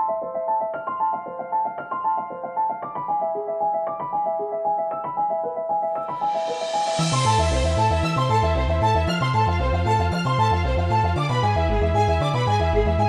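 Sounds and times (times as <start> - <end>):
piano playing broken chords: 0.0 - 13.0.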